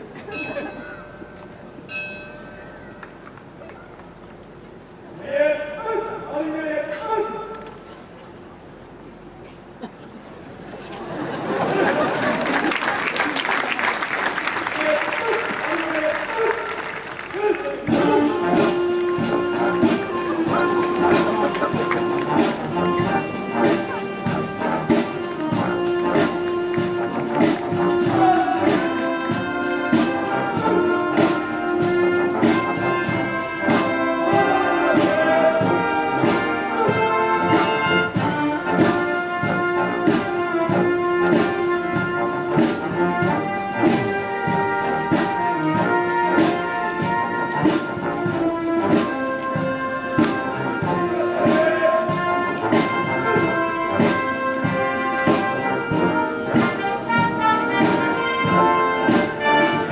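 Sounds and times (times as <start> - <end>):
brass band playing: 11.0 - 59.9.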